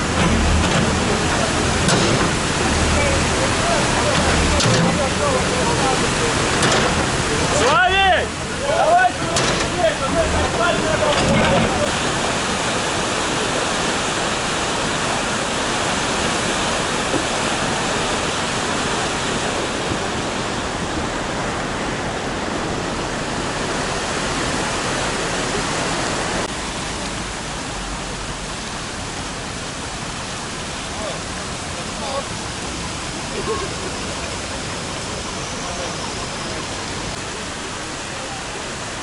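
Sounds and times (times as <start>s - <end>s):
flowing water rushing: 0.0s - 39.0s.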